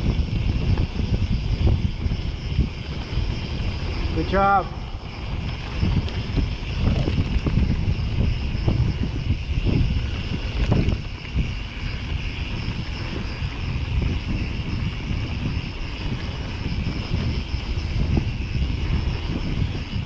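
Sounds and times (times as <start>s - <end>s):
bike tyres rumbling on dirt: 0.0s - 20.0s
wind buffeting microphone: 0.0s - 20.0s.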